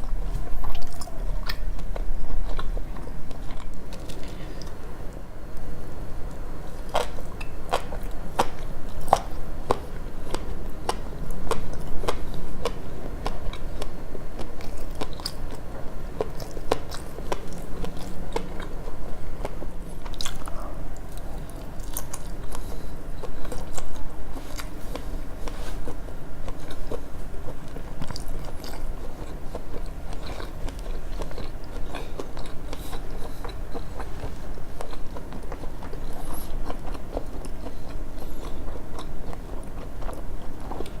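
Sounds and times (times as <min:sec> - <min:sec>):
wet chewing mouth sounds: 0:00.0 - 0:04.8, 0:06.7 - 0:41.0.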